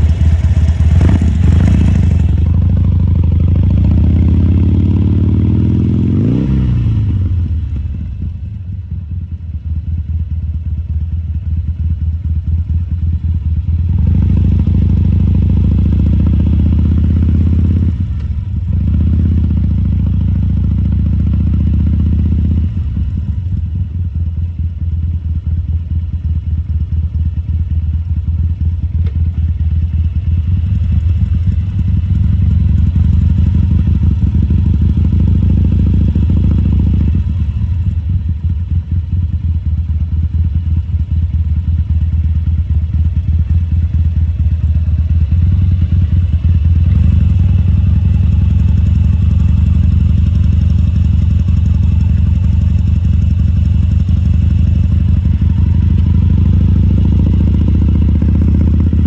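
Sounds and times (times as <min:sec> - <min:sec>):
motorcycle engine revving: 0:00.0 - 0:08.2, 0:13.6 - 0:23.5, 0:28.5 - 0:59.0.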